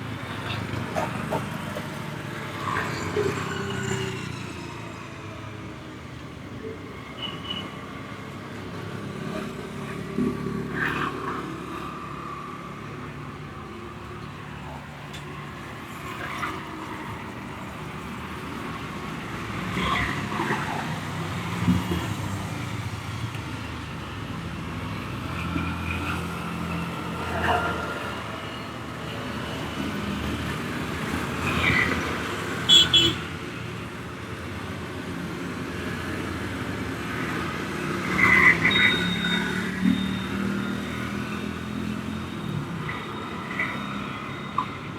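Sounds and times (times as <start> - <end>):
vehicle engines rumbling: 0.0 - 44.9.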